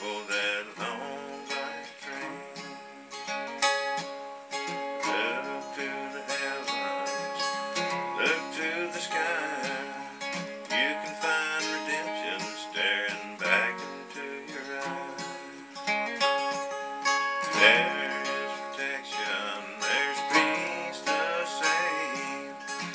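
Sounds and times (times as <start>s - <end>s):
acoustic guitar solo: 0.0s - 22.9s.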